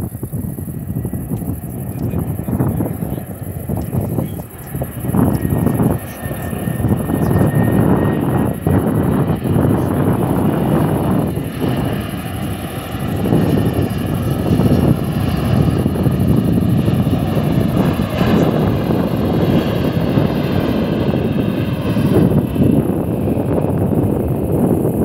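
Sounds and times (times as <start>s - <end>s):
jet engine rumble with whine: 0.0s - 25.0s.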